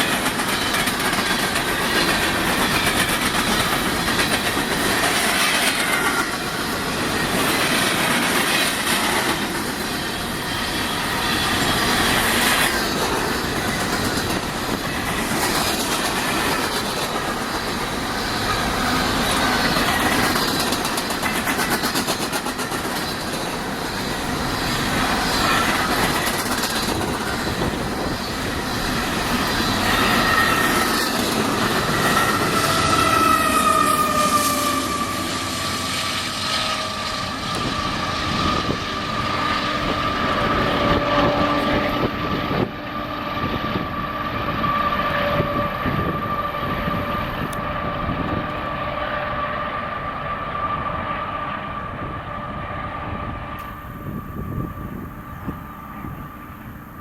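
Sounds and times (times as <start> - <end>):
freight train wheels clacking: 0.0 - 50.4.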